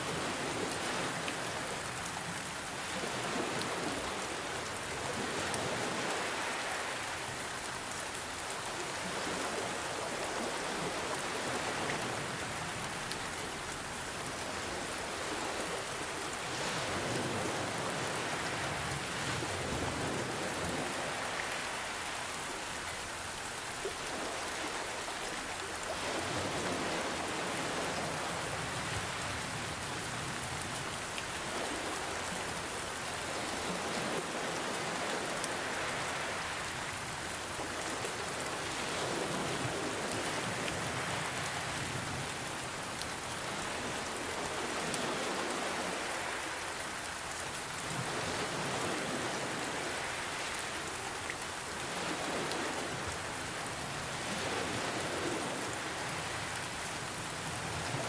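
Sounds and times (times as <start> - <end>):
ocean waves: 0.0 - 58.0
rain falling: 0.0 - 58.0.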